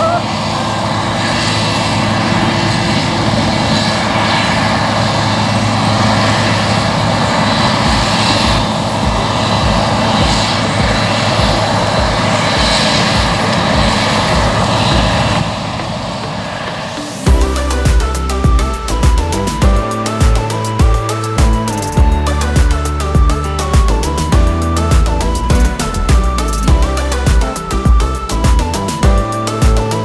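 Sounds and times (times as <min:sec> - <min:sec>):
combine harvester engine drone: 0:00.0 - 0:30.0.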